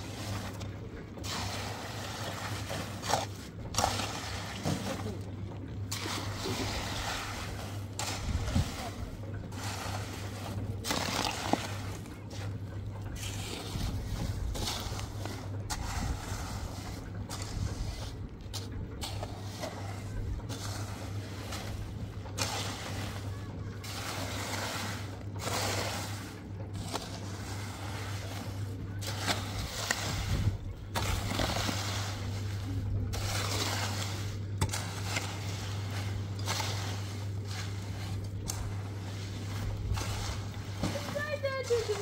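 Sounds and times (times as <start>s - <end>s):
metal hoe scraping wet concrete: 0.0s - 42.0s
steady low hum: 0.0s - 42.0s.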